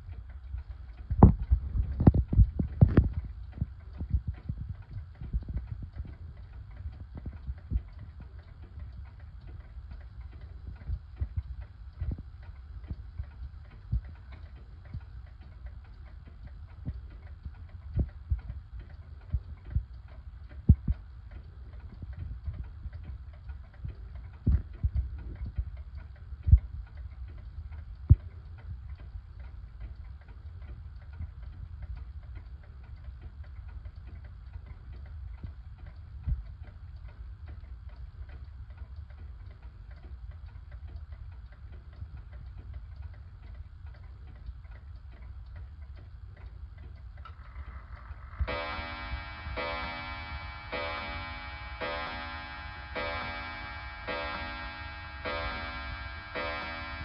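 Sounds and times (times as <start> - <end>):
low hum: 0.0 - 57.0
pendulum wall clock ticking: 0.0 - 57.0.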